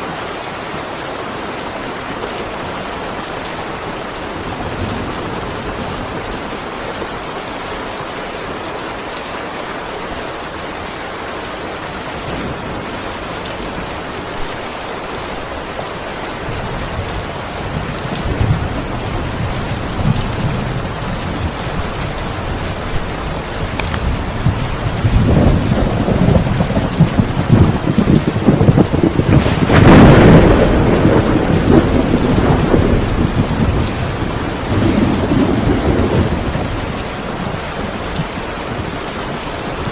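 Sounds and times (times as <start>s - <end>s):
heavy rain falling: 0.0s - 39.9s
thunder rumbling: 2.8s - 8.0s, 12.1s - 39.9s.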